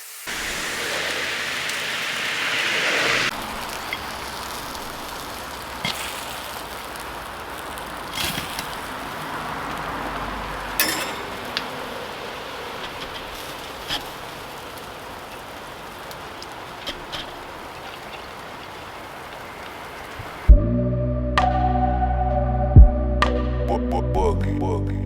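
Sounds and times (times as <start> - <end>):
chicken wings sizzling on grill: 0.0 - 20.5.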